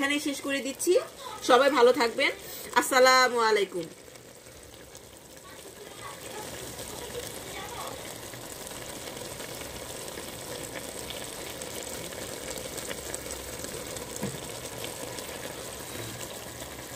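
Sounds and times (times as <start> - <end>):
curry sizzling in a pot: 0.0 - 16.9
small crackles and pops: 0.0 - 16.9.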